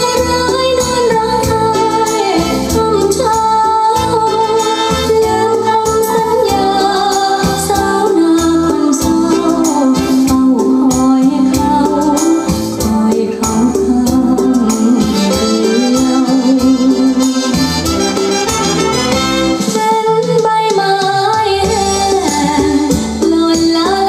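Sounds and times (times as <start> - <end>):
music with bass beat over loudspeakers: 0.0 - 24.0.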